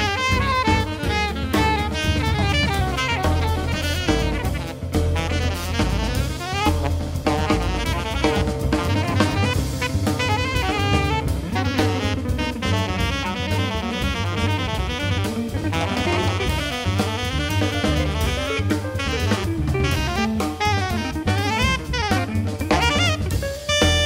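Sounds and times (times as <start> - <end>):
alto saxophone melody: 0.0 - 24.0
double bass: 0.0 - 24.0
drum kit: 0.0 - 24.0
guitar: 0.0 - 24.0.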